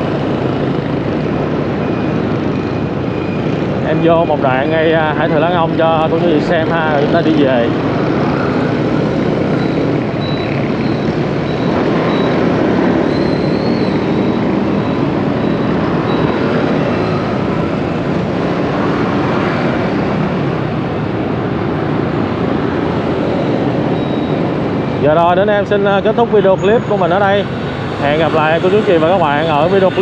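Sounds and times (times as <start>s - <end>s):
motorbike engines running: 0.0s - 30.0s.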